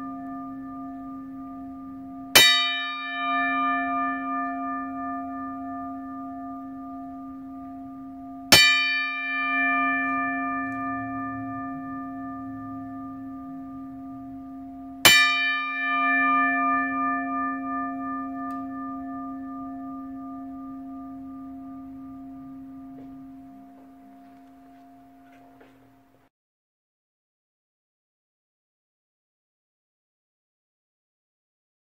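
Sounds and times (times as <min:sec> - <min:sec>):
deep bell ringing: 0:00.0 - 0:26.2.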